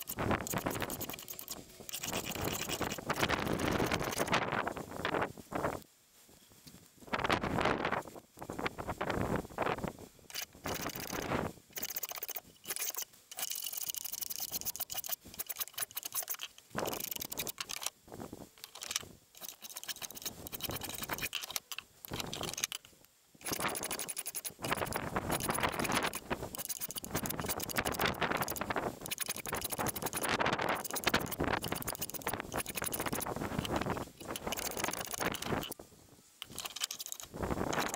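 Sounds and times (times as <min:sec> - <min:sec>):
spokeshave scraping wood: 0:00.0 - 0:04.4, 0:10.3 - 0:17.9, 0:18.6 - 0:35.8, 0:36.4 - 0:37.9.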